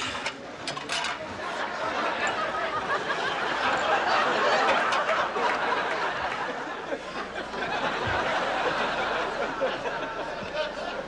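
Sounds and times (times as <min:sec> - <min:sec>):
crowd murmuring and laughing: 0:00.0 - 0:11.0.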